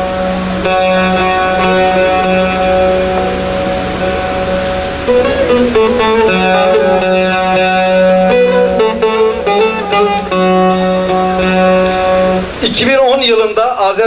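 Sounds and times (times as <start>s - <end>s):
plucked string melody: 0.0s - 12.6s.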